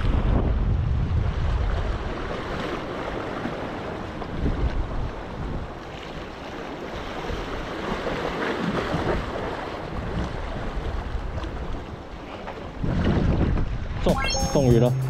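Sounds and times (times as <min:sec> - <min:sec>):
sea waves washing against rocks: 0:00.0 - 0:14.0
wind buffeting microphone: 0:00.0 - 0:14.1.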